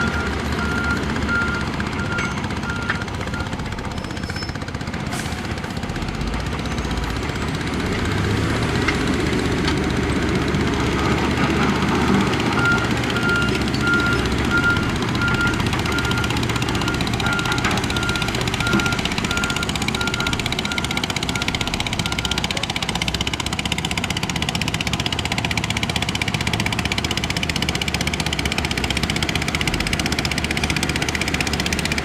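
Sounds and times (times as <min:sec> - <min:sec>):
diesel engine running under load: 0:00.0 - 0:32.0.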